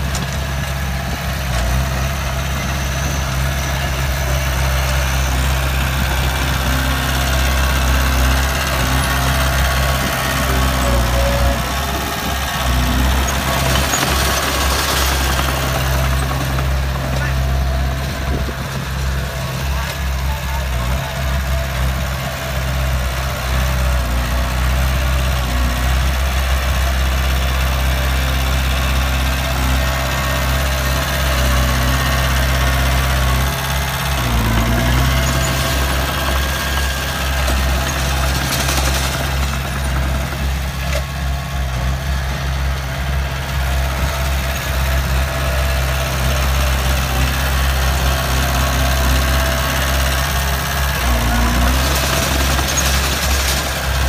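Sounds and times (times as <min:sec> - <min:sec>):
heavy diesel engines rumbling: 0:00.0 - 0:54.0.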